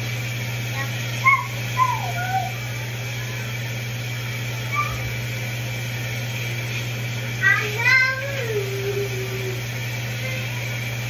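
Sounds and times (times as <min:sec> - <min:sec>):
kitchen fan hum: 0:00.0 - 0:11.0.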